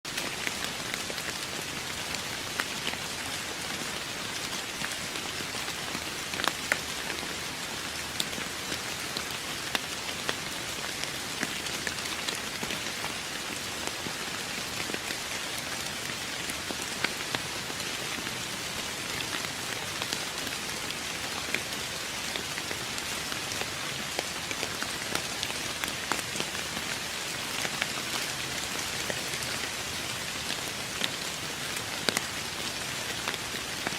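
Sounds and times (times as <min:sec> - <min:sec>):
raindrops tapping close by: 0:00.1 - 0:33.9
steady rain hiss: 0:00.1 - 0:33.9.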